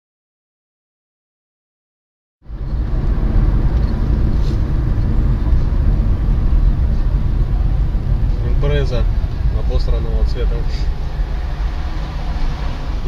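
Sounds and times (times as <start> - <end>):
car road and engine rumble: 2.4 - 13.0.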